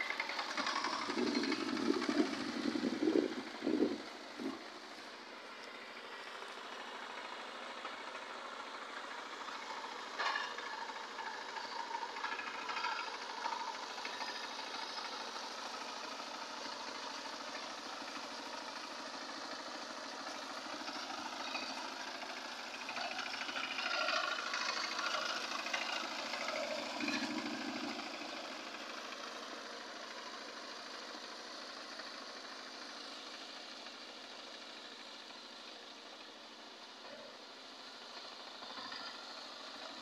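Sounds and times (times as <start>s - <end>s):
power tiller engine running: 0.0s - 40.0s.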